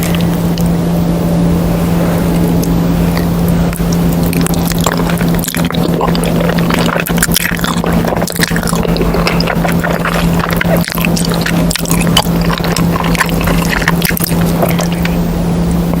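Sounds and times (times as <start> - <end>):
wet sticky chewing: 0.0 - 0.7, 2.4 - 15.3
steady low hum: 0.0 - 16.0.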